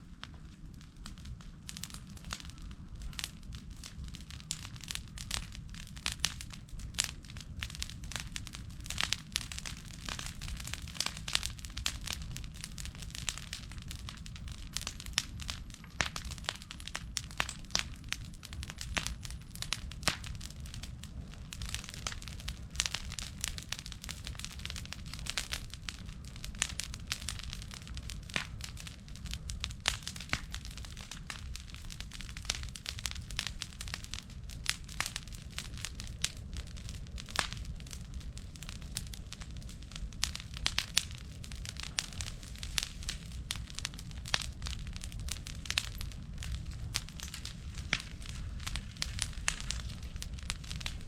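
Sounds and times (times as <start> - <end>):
bonfire crackling and popping: 0.0 - 51.0
low fire rumble: 0.0 - 51.0.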